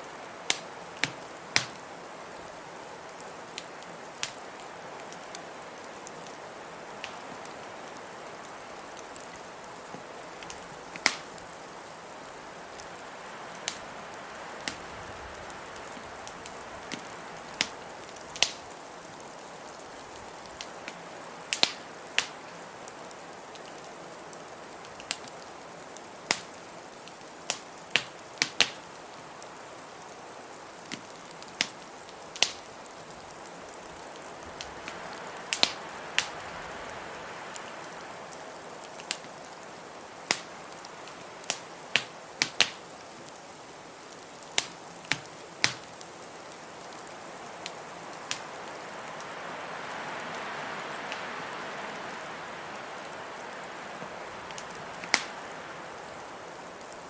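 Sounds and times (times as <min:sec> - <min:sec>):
blizzard wind hissing: 0:00.0 - 0:23.4, 0:28.9 - 0:41.9, 0:46.3 - 0:57.0
wood fire crackling: 0:00.0 - 0:57.0.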